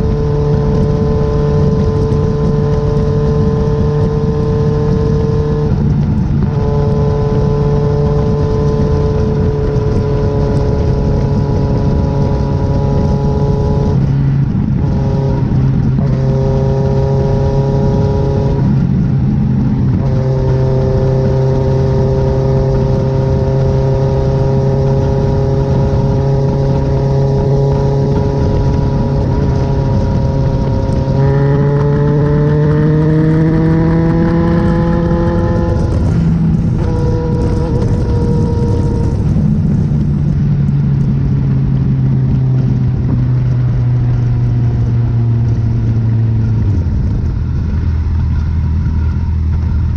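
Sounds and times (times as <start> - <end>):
motorcycle engine running: 0.0 - 49.9
wind and road noise: 0.0 - 49.9.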